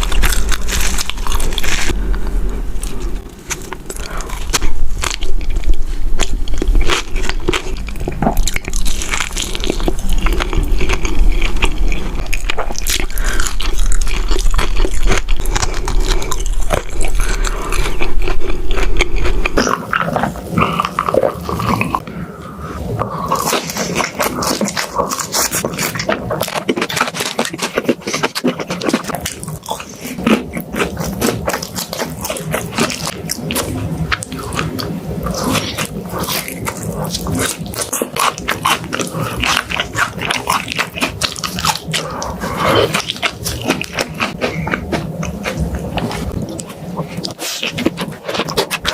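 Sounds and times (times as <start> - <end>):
crunchy bites and chewing: 0.0 - 22.1, 23.0 - 48.9
low background hum: 0.0 - 48.9.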